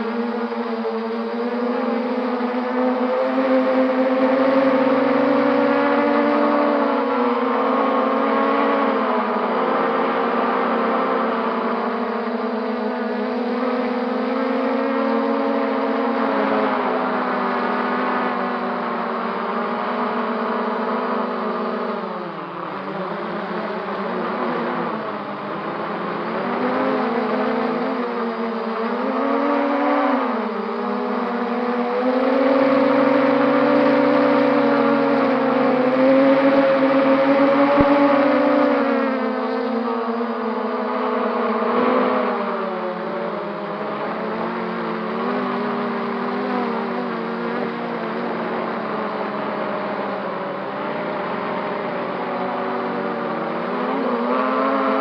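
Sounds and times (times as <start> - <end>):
quadcopter propellers whining: 0.0 - 55.0.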